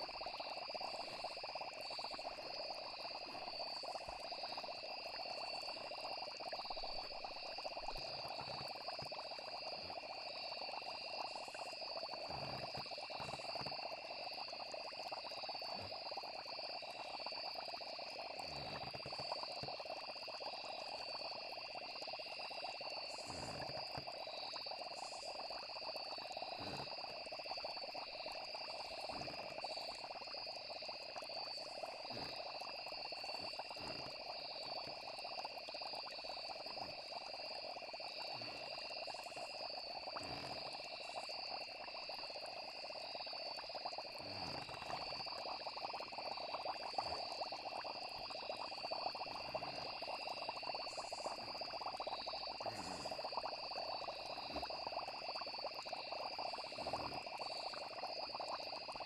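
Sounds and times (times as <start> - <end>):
frogs and insects chorus: 0.0 - 59.0
low short frog calls: 0.0 - 59.0.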